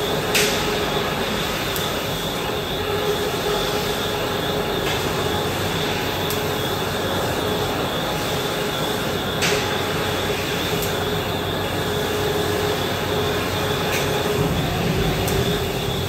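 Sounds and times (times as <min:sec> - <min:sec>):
high whine: 0:00.0 - 0:16.0
laser cutter mechanical drone: 0:00.0 - 0:16.0.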